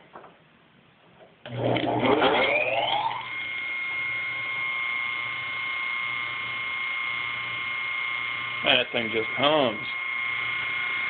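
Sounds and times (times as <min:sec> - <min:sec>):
electric motor whining: 0:01.5 - 0:11.0.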